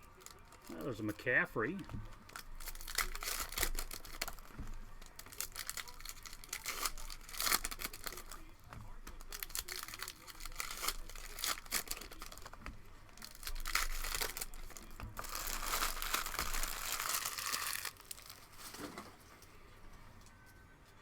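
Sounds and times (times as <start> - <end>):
plastic wrapper tearing and crinkling: 0.0 - 19.3.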